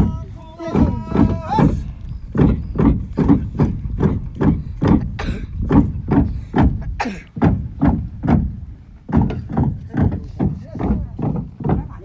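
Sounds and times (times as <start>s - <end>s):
rhythmic dance thuds: 0.0s - 12.0s.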